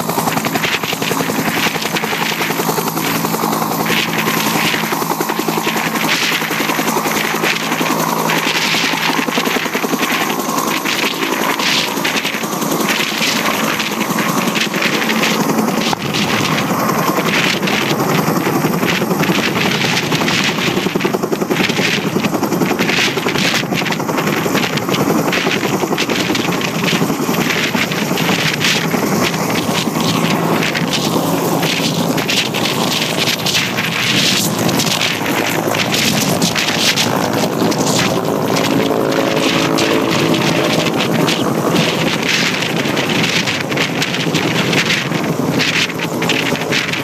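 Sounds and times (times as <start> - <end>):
helicopter engine running: 0.0 - 47.0
helicopter rotor chopping: 0.0 - 47.0.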